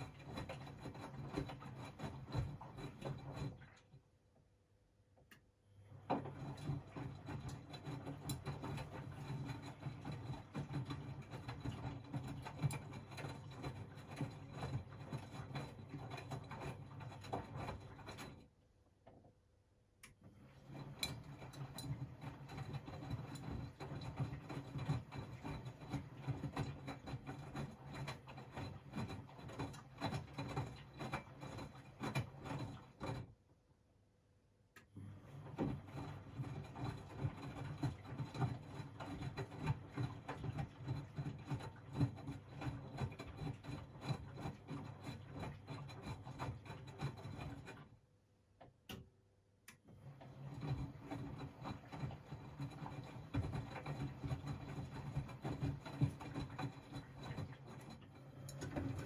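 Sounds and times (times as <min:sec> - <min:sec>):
washing machine drum tumbling: 0:00.0 - 0:03.8, 0:05.9 - 0:18.4, 0:20.4 - 0:33.3, 0:35.0 - 0:47.9, 0:50.0 - 0:59.0.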